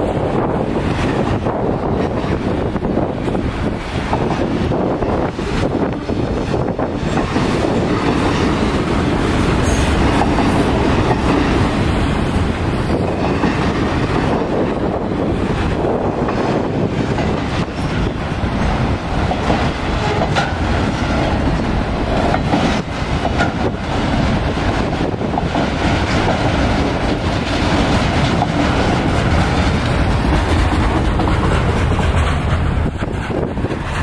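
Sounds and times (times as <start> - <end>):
steel wheels rumbling on rail: 0.0 - 34.0
wheels clacking over rail joints: 0.6 - 34.0.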